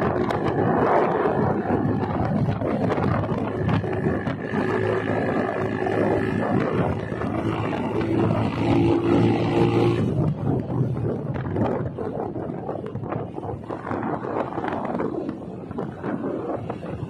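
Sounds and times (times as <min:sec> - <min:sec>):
vehicle engine and wind rumble: 0:00.0 - 0:17.0.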